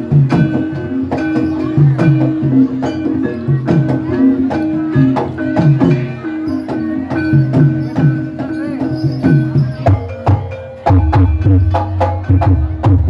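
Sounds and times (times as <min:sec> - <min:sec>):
gamelan music: 0:00.0 - 0:13.0
low drum strokes: 0:00.0 - 0:13.0.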